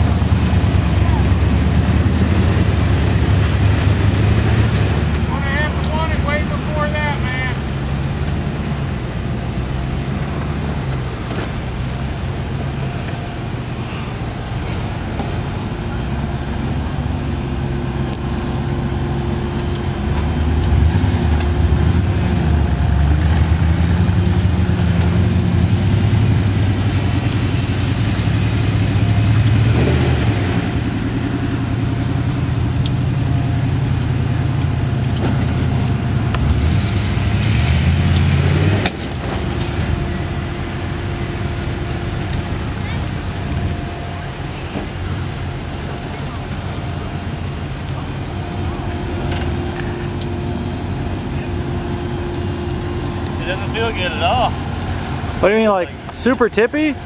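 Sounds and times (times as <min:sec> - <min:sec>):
engine working under load: 0:00.0 - 0:57.0.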